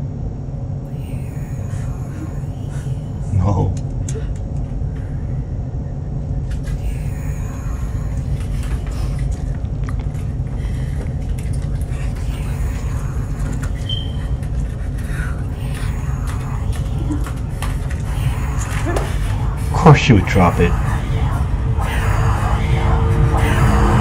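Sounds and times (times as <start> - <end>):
low rumbling drone: 0.0 - 24.0.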